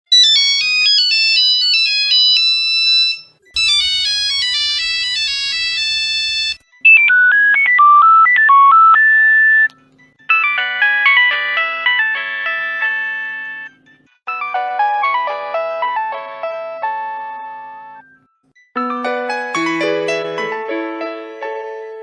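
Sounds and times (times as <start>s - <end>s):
phone ringtone melodies: 0.1s - 21.4s.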